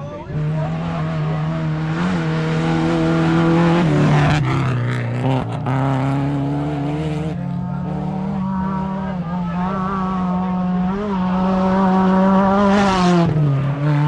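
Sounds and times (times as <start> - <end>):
rally car engine passing: 0.0 - 14.0.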